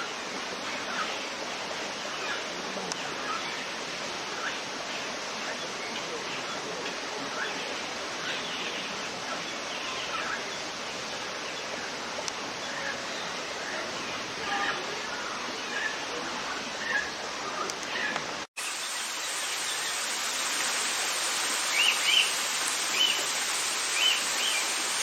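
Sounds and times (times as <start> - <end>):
steady rushing hiss: 0.0 - 25.0.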